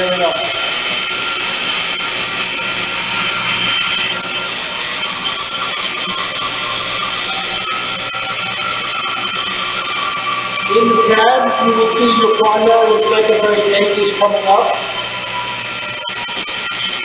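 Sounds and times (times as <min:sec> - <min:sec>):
warning buzzer: 0:00.0 - 0:17.0.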